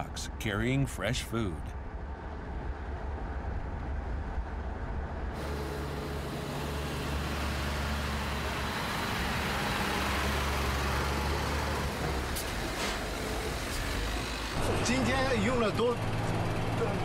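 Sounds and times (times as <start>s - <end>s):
truck engine rumble: 0.0s - 17.0s
tyre road noise: 0.0s - 17.0s.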